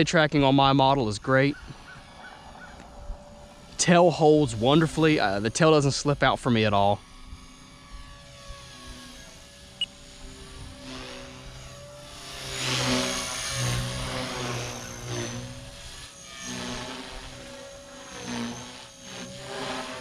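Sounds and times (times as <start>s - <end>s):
rc helicopter motor whine: 0.0s - 20.0s.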